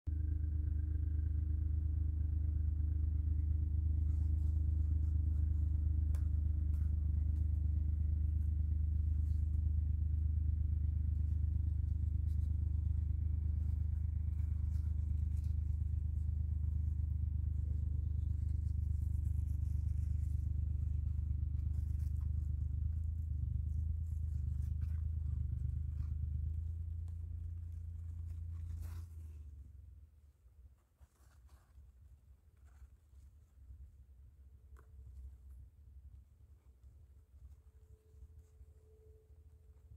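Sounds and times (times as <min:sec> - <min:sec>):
low machine hum: 0:00.1 - 0:39.9.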